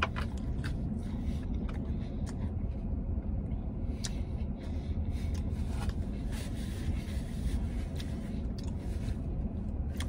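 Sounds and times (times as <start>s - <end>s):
person chewing food: 0.0s - 10.0s
steady low rumble: 0.0s - 10.0s.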